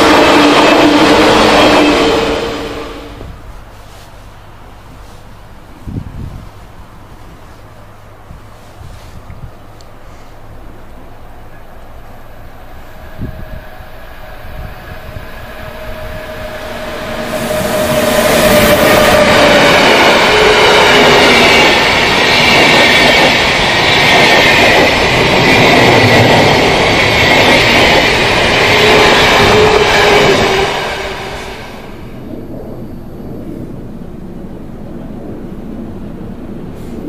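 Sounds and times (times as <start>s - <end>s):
electric train passing: 0.0s - 9.1s, 9.7s - 37.0s
wheels rushing on rail: 0.0s - 37.0s.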